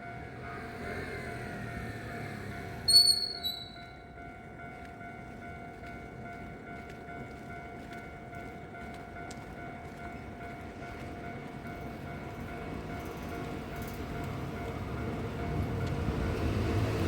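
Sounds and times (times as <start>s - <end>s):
level-crossing warning bell ringing: 0.0s - 17.0s
train running noise: 0.0s - 17.0s.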